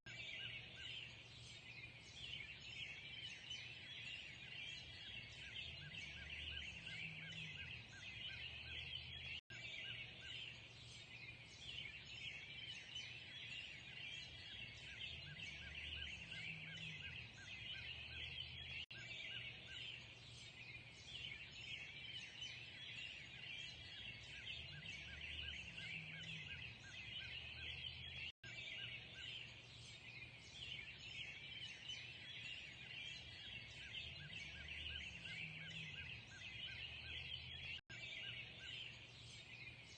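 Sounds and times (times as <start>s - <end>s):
many small birds singing: 0.0s - 39.9s.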